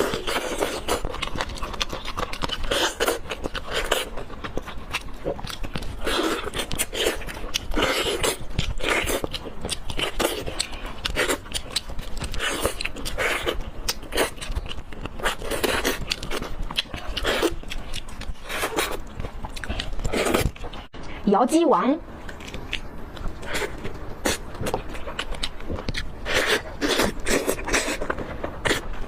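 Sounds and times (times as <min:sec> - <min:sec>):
close chewing and biting: 0:00.0 - 0:21.2, 0:22.2 - 0:29.0.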